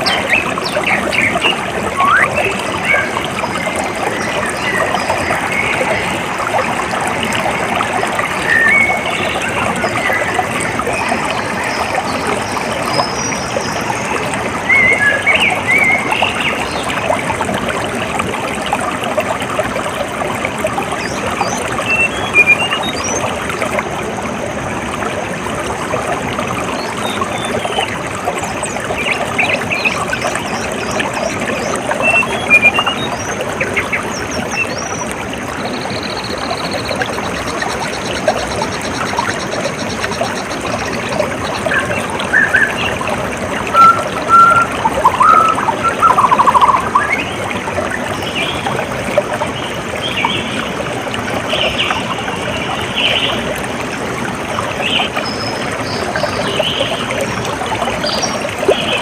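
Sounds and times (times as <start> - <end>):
water trickling and pouring: 0.0 - 59.0.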